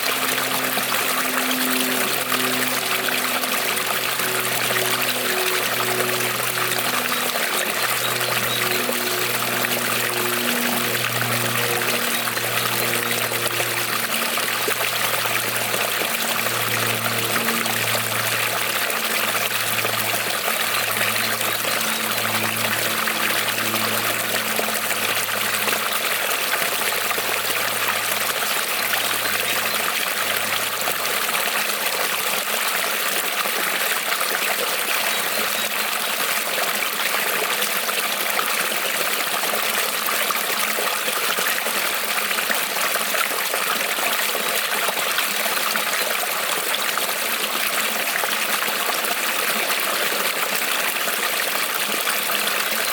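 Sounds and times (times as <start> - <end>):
creek trickling over stones: 0.0 - 52.9.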